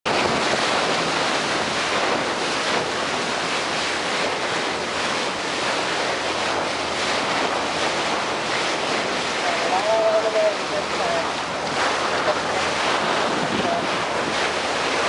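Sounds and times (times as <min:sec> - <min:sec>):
sea water rushing along hull: 0:00.0 - 0:15.0
wind buffeting microphone: 0:00.1 - 0:15.0.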